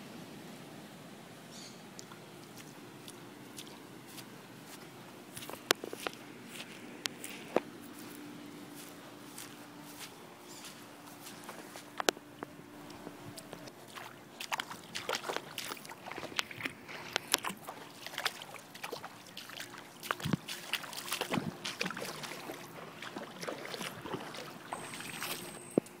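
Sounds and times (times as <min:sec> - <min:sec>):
footsteps sloshing through water: 0:02.0 - 0:26.0.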